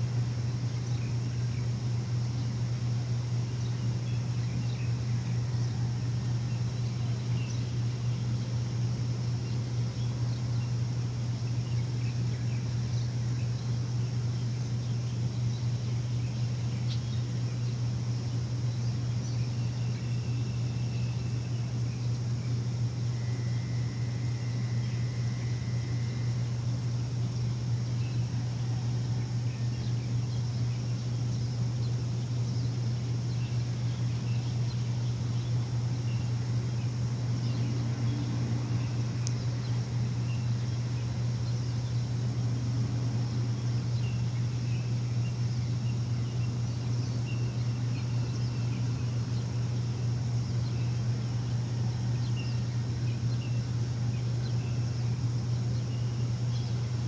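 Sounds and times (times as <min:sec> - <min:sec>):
bird chirps: 0:00.0 - 0:57.0
low machine hum: 0:00.0 - 0:57.0.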